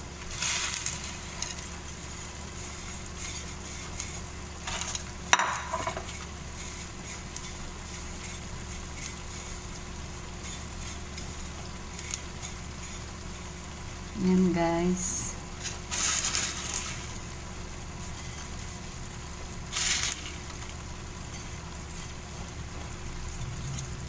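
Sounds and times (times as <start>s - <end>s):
butter sizzling in a pan: 0.0s - 24.0s.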